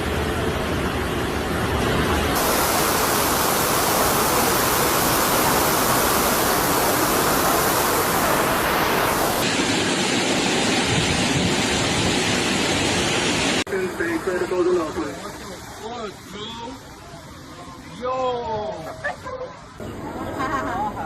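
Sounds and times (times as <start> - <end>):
heavy rain: 0.0 - 17.5.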